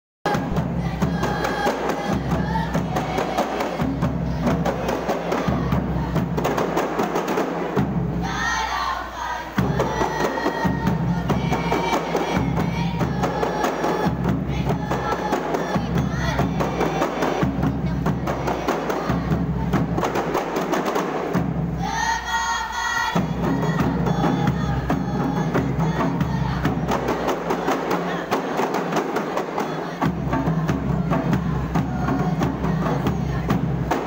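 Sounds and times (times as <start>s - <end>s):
large drum low beat: 0.3s - 8.6s, 9.6s - 28.6s, 29.8s - 34.0s
frame drums beaten fast: 0.3s - 34.0s.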